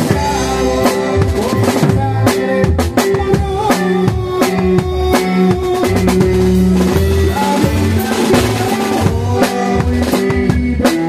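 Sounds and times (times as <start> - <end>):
band playing live: 0.0 - 11.0
bass notes: 0.0 - 11.0
drum kit strokes: 0.0 - 11.0.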